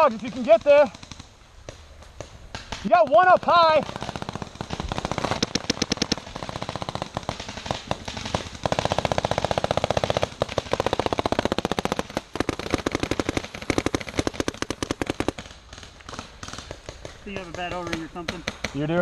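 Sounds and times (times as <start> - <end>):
paintball markers firing rapidly: 0.0 - 19.0.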